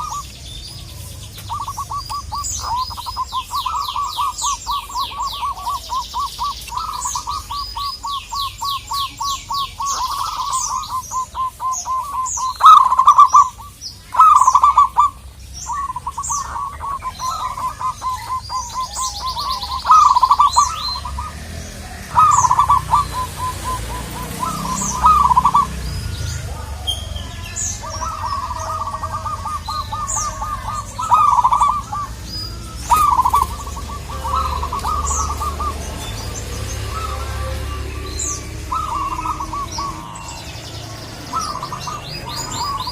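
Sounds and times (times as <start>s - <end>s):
doves cooing: 0.0s - 42.9s
small birds chirping: 0.0s - 42.9s.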